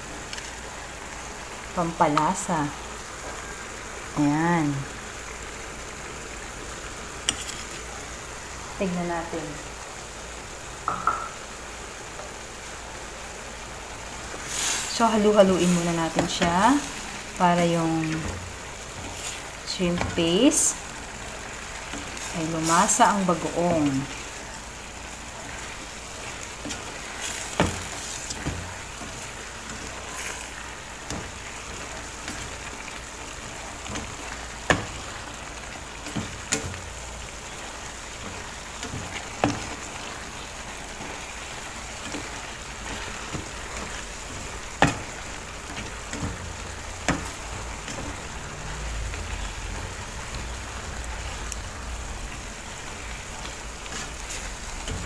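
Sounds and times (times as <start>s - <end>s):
vegetables sizzling in a frying pan: 0.0s - 55.0s.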